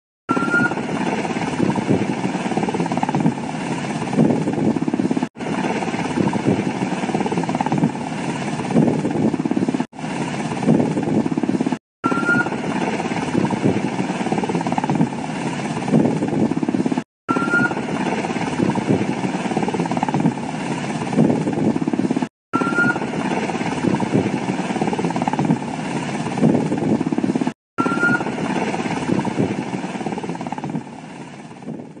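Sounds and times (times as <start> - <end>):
helicopter rotor rushing: 0.3 - 32.0.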